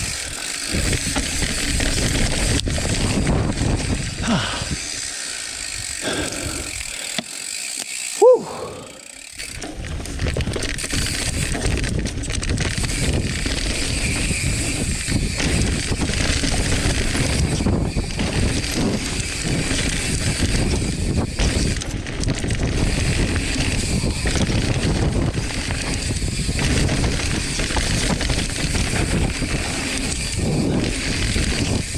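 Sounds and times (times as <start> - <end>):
wind rush on microphone: 0.0 - 7.0, 9.5 - 31.9
bike rattling over bumps: 0.0 - 31.9.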